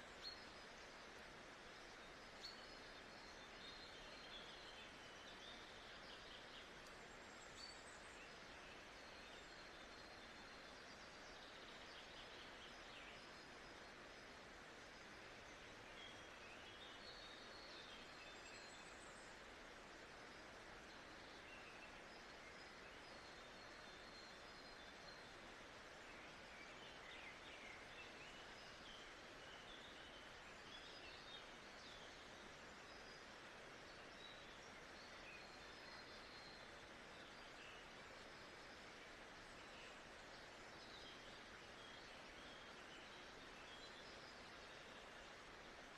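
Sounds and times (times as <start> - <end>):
soft steady hiss: 0.0 - 45.9.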